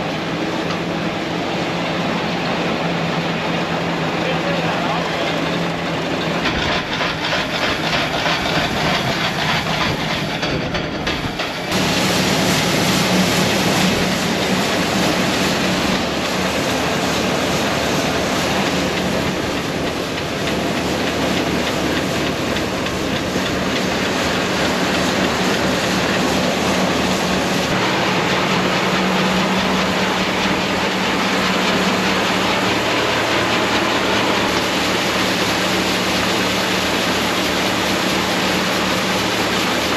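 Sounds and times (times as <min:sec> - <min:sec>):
grain auger machine hum: 0:00.0 - 0:39.9.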